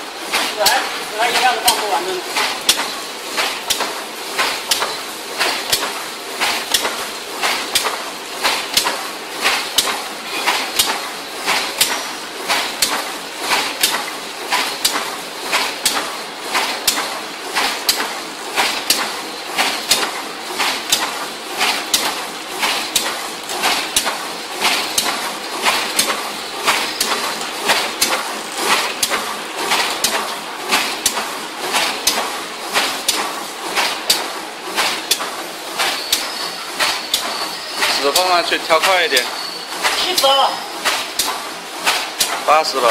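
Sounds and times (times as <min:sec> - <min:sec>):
machine clacking rhythmically: 0:00.0 - 0:42.9.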